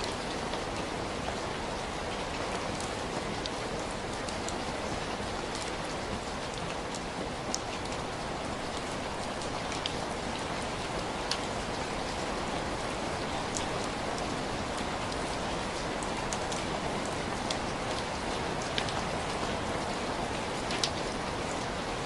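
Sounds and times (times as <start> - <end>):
steady rain falling: 0.0 - 22.0
raindrops ticking: 2.1 - 21.2.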